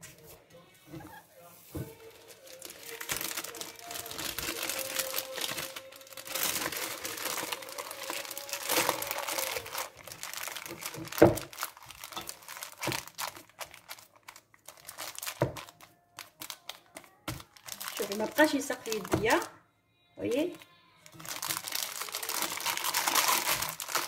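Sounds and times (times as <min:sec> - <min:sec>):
plastic bag crinkling: 0:01.8 - 0:19.5, 0:20.3 - 0:24.0.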